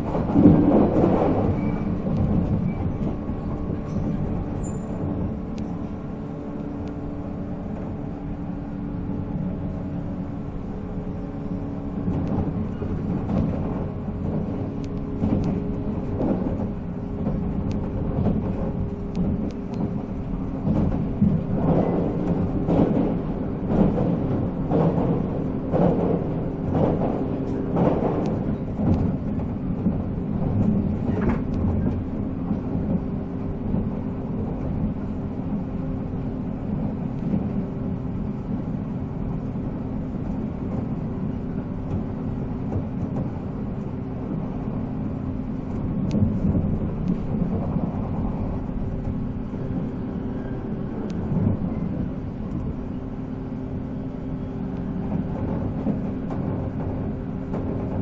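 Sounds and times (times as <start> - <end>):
wheels clacking over rail joints: 0.0 - 8.2, 11.8 - 58.0
train running gear rumble: 0.0 - 58.0.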